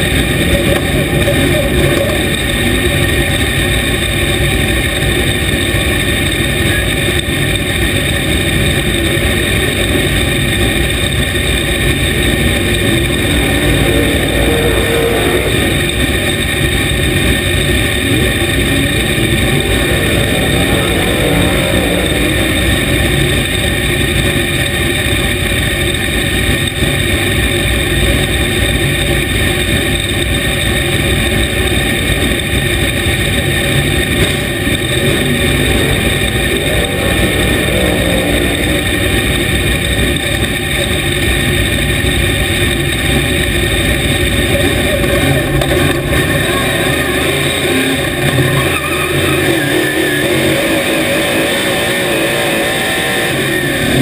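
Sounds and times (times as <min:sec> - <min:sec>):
race car engine idling: 0:00.0 - 0:54.0.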